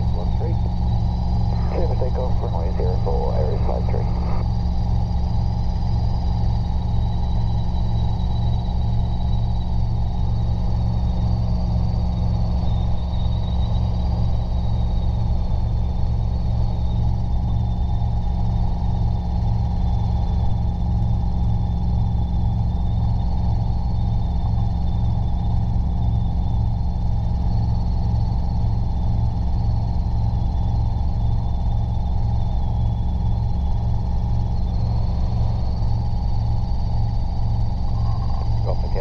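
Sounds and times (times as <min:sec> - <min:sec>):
faint high whine: 0:00.0 - 0:39.0
helicopter engine and rotor drone: 0:00.0 - 0:39.0.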